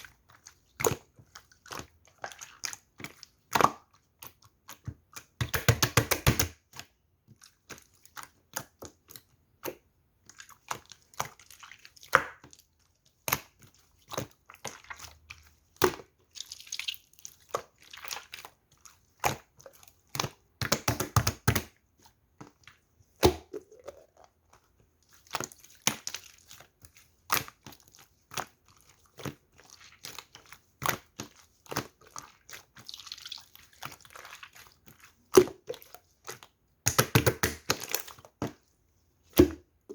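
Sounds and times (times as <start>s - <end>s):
slime kneaded by hand: 0.0s - 39.9s.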